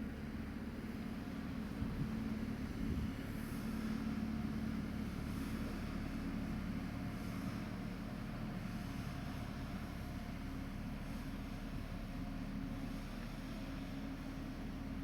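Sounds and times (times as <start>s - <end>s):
street sweeper engine and fan drone: 0.0s - 15.0s.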